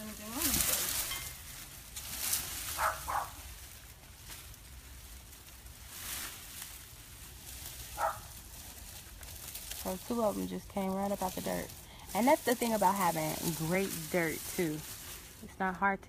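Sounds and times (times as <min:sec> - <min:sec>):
leafy vines rustling: 0:00.0 - 0:16.0.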